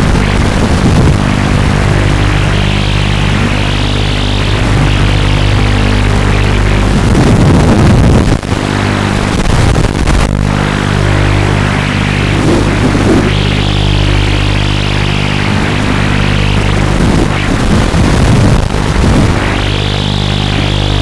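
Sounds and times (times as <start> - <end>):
drone motors buzzing: 0.0 - 21.0
propeller hiss: 0.0 - 21.0.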